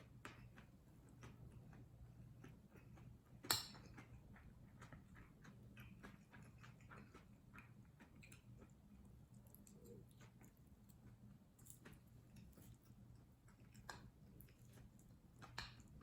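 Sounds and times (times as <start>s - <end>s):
person chewing: 0.2s - 16.0s.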